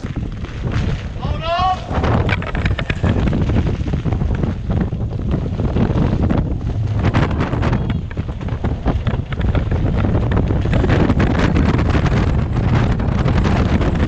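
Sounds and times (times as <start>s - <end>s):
crackle of sharp hits: 0.0s - 13.9s
strong wind gusts rumbling: 0.0s - 14.0s.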